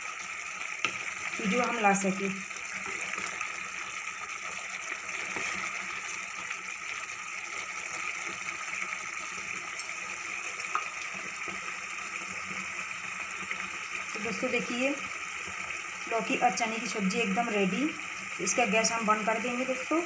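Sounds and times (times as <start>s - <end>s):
curry simmering hiss: 0.0s - 20.0s.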